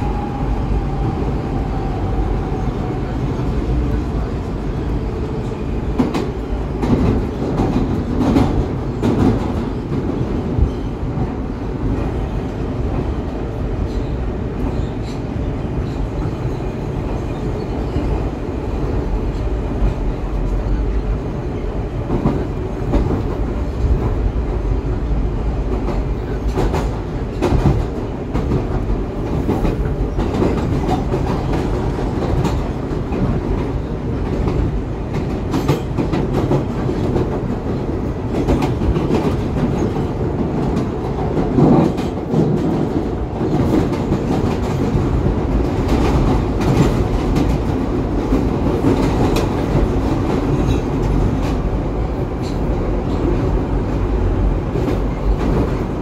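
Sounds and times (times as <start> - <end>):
rumble of wheels on rail: 0.0 - 56.0.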